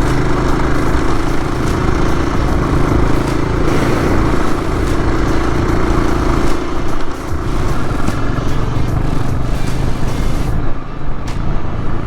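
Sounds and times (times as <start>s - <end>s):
broad rushing noise: 0.0s - 12.0s
motorcycle engine drone: 0.0s - 12.0s.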